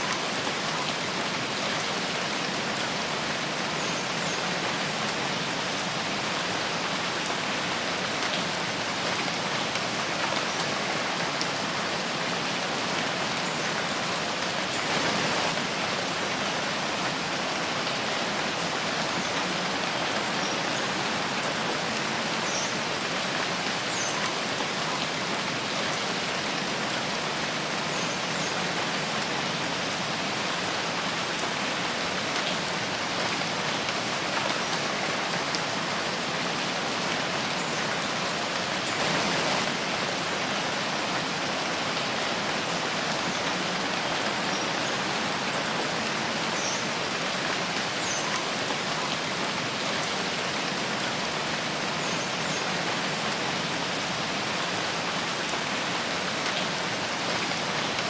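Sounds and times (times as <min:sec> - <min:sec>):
steady rain in forest: 0:00.0 - 0:58.0.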